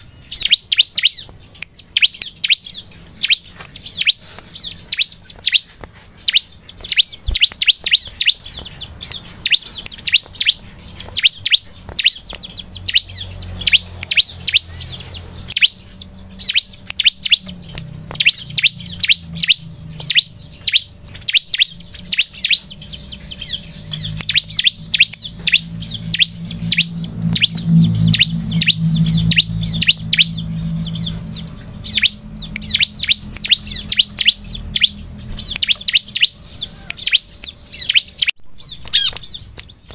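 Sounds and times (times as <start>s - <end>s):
bird singing high chirps: 0.0s - 39.9s
low hum: 0.0s - 39.9s.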